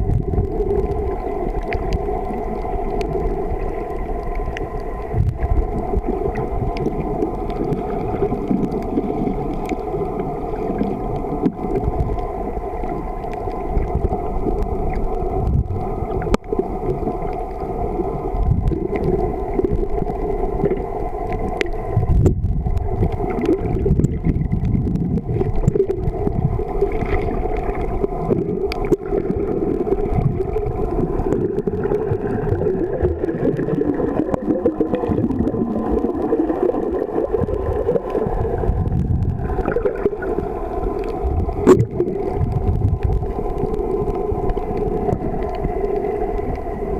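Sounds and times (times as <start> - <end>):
muffled underwater rumble: 0.0 - 46.9.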